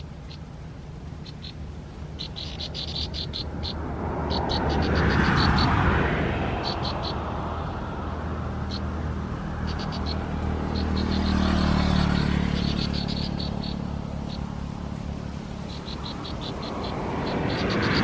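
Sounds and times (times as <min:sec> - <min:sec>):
high chirping ticks: 0:00.0 - 0:05.8, 0:08.6 - 0:18.0
low engine-like drone: 0:00.0 - 0:18.0.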